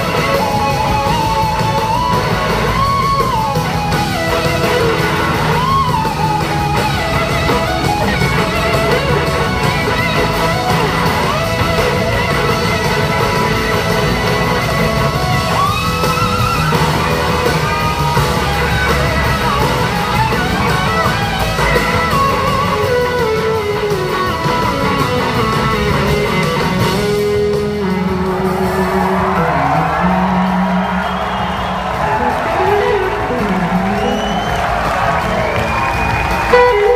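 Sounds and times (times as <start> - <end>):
electric slide guitar: 0.0 - 31.2, 31.9 - 36.9
bass guitar: 0.0 - 36.9
drums: 0.0 - 36.9.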